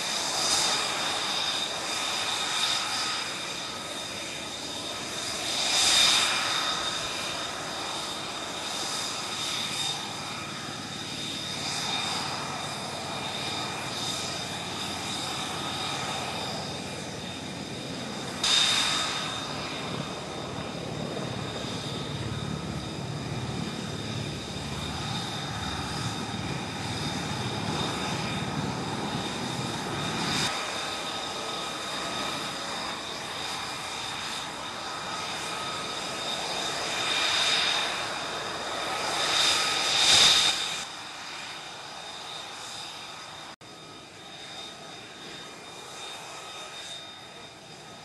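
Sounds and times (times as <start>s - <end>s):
jet engine whine: 0.0s - 48.0s.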